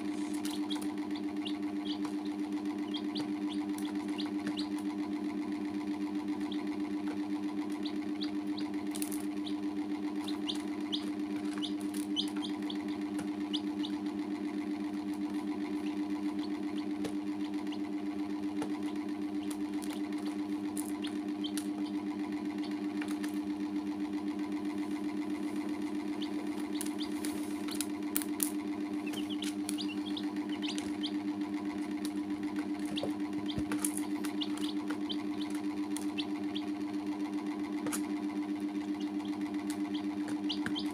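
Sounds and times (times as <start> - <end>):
chicks peeping: 0.0 - 40.9
low mechanical hum: 0.0 - 40.9.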